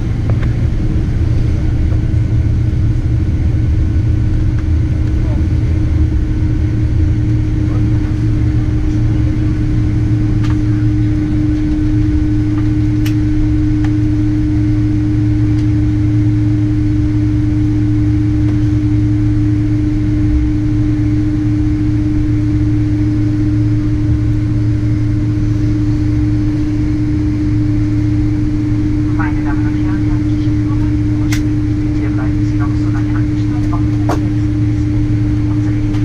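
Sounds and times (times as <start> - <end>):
aircraft cabin drone: 0.0 - 36.0.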